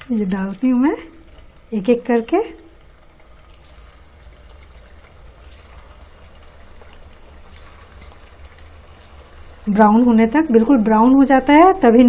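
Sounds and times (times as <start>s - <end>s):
dough frying in oil: 0.0s - 12.0s.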